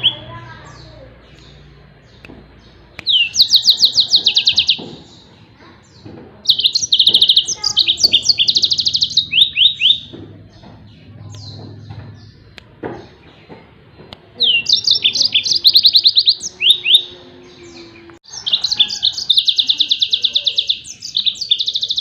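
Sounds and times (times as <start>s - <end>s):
canary singing: 0.0s - 22.0s.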